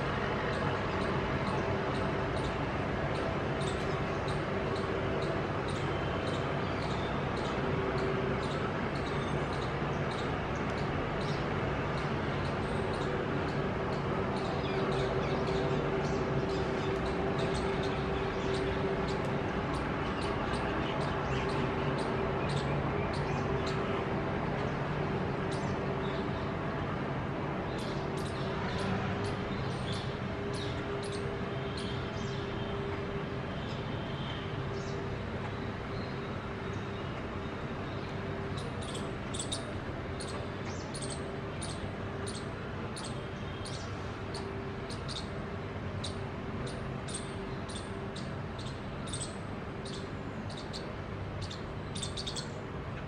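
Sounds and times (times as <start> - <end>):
background hum and rumble: 0.0 - 53.0.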